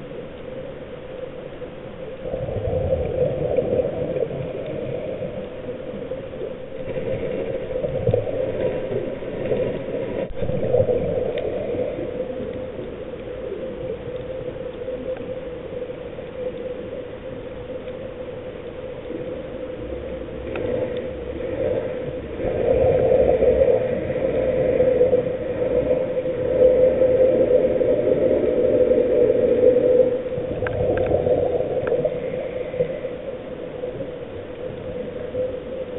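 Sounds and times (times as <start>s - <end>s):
underwater humming drone: 0.0s - 35.9s
underwater rushing noise: 0.0s - 35.9s.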